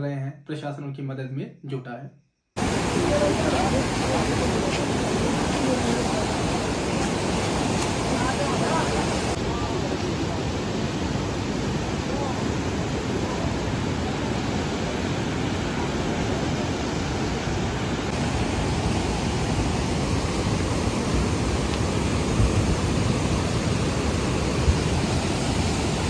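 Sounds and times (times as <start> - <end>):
river water rushing: 2.6 - 26.0.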